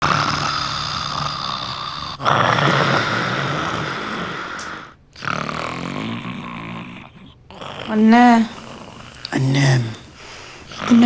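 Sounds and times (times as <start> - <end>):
woman snoring heavily: 0.0 - 11.0.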